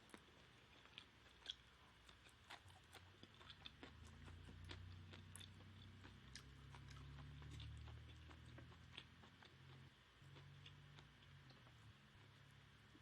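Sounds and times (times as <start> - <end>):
person chewing: 0.0 - 12.4.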